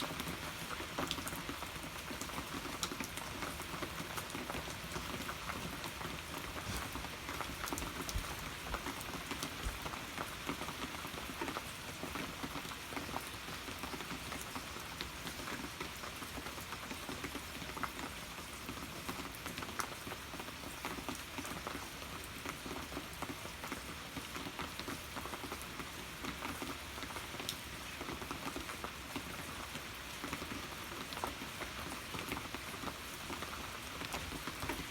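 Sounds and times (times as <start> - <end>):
rain drops pattering: 0.0 - 34.9.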